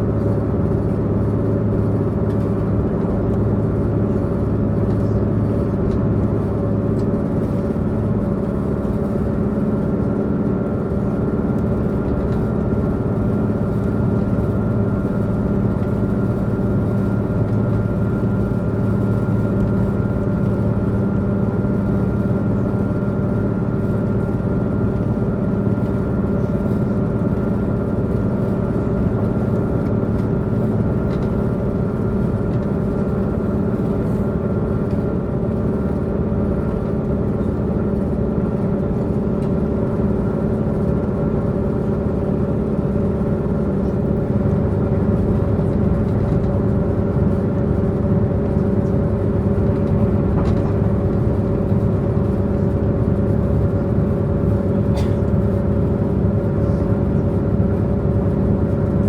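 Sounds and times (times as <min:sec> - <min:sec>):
train diesel engine humming: 0:00.0 - 0:59.0.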